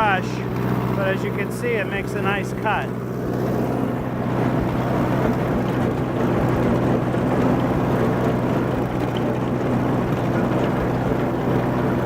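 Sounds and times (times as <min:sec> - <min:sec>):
rotary mower cutting grass: 0:00.0 - 0:12.0
tractor engine running under load: 0:00.0 - 0:12.0.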